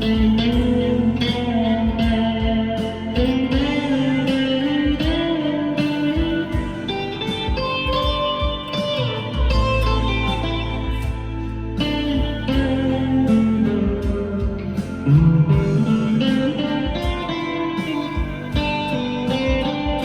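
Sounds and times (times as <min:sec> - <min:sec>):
clean electric guitar with reverb: 0:00.0 - 0:20.0.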